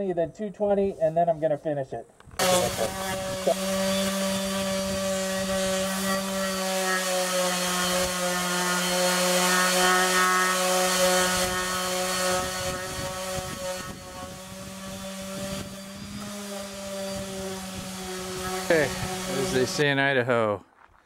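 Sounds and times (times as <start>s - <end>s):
orbit sander motor hum: 2.4s - 19.8s
sandpaper hissing on wood: 2.4s - 19.9s.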